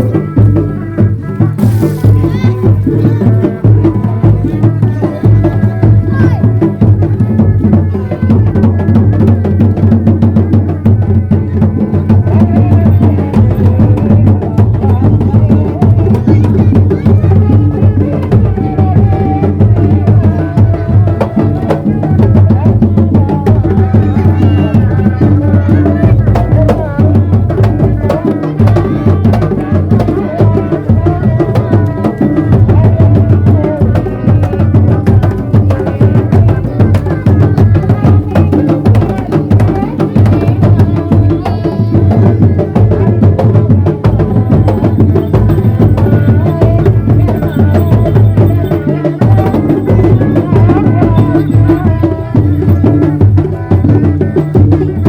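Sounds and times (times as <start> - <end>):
ensemble drumming: 0.0 - 55.0.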